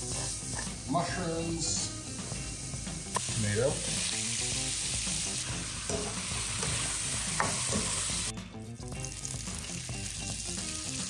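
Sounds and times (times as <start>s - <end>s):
faint sizzle in hot fat: 0.0s - 11.0s
light background music: 0.0s - 11.0s
vegetables sizzling in a wok: 0.0s - 11.0s.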